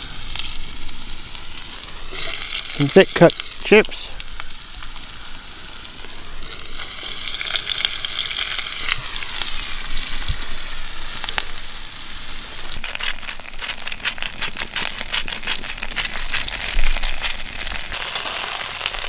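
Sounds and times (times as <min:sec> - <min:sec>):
chips sizzling in hot oil: 0:00.0 - 0:19.0
oil crackling and popping: 0:00.0 - 0:19.0.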